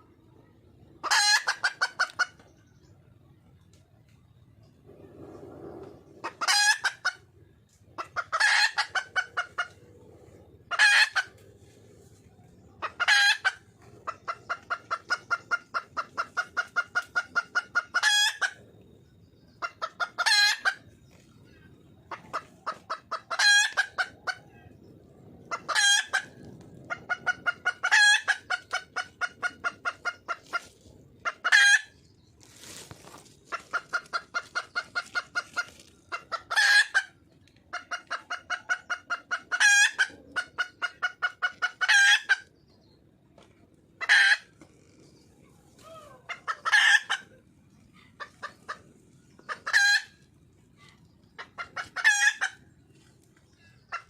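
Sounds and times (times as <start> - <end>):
hen clucking: 0.0 - 3.8, 5.0 - 54.0.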